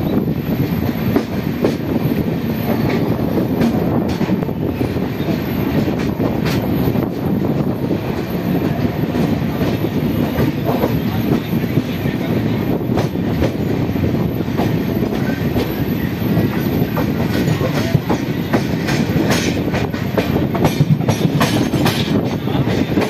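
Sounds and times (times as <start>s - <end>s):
train wheels running on rails: 0.0s - 23.0s
sharp clacks of train wheels: 0.5s - 23.0s.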